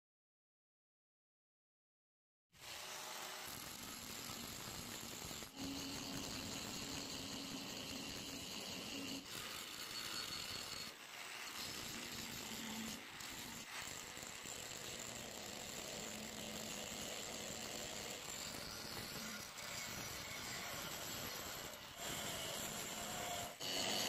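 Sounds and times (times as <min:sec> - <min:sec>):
angle grinder grinding metal: 0:02.6 - 0:24.0.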